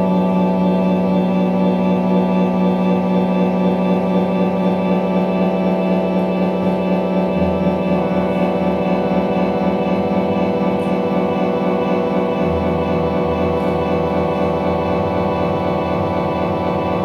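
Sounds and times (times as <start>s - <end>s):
ambient drone music: 0.0s - 17.0s
deep low note: 0.0s - 17.0s.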